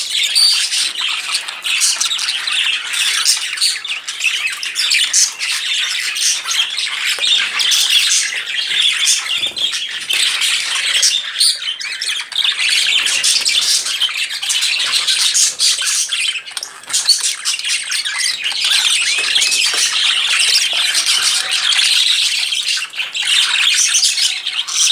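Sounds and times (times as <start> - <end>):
budgerigars chattering and chirping: 0.0 - 24.9.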